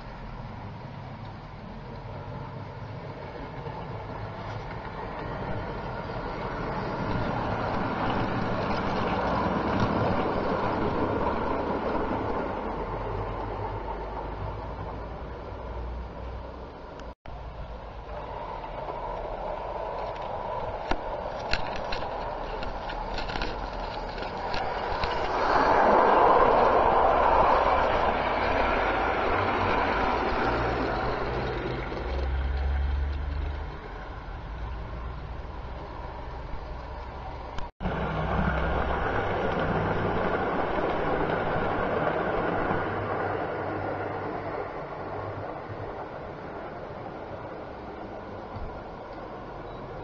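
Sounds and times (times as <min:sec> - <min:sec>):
model train rolling hum: 0:00.0 - 0:50.0
wheels clicking over rail joints: 0:00.0 - 0:50.0.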